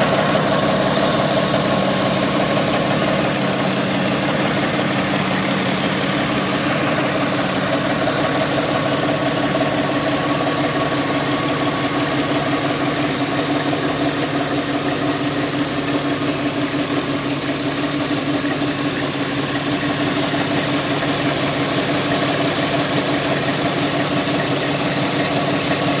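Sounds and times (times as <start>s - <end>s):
car engine idling: 0.0s - 26.0s
continuous squeak: 0.0s - 26.0s.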